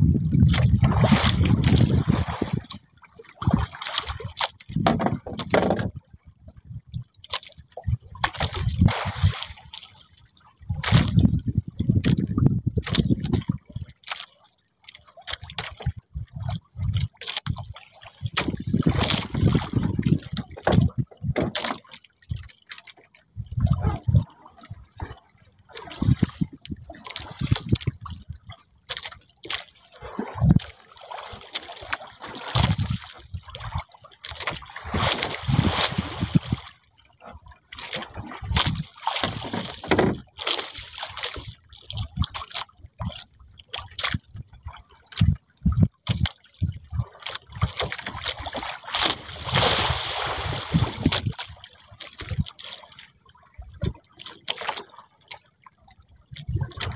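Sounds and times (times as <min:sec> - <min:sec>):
water splashing and sloshing: 0:00.0 - 0:56.9.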